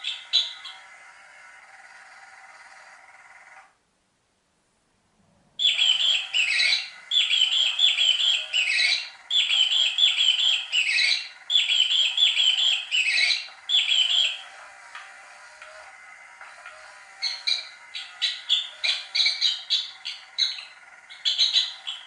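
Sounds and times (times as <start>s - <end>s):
electronic bird-like chirping toy: 0.0s - 3.6s, 5.6s - 14.6s, 16.1s - 22.0s.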